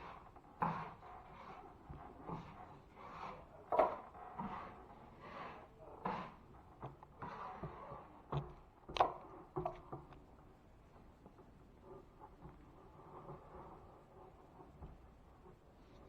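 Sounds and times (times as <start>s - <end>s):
drywall tools scraping: 0.0s - 10.0s, 11.8s - 16.0s.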